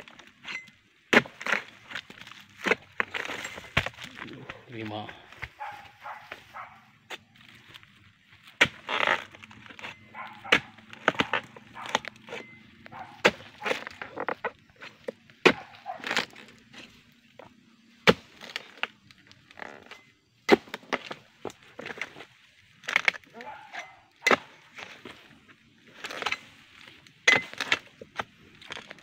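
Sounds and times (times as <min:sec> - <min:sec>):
chisel chopping palm stalks: 0:00.1 - 0:05.9, 0:08.5 - 0:17.0, 0:17.9 - 0:19.0, 0:19.6 - 0:29.0.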